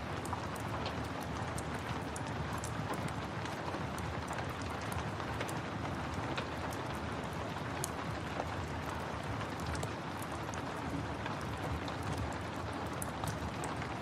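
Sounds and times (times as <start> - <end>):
steady rain: 0.0 - 14.0
wood fire crackling: 0.1 - 14.0.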